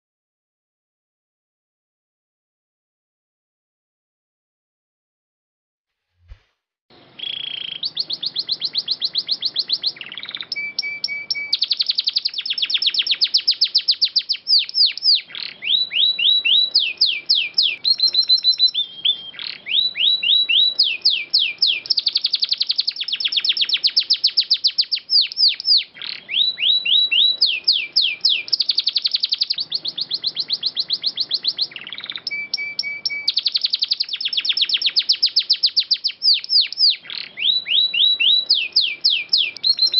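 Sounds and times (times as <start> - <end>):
canary singing trills: 6.9 - 39.9.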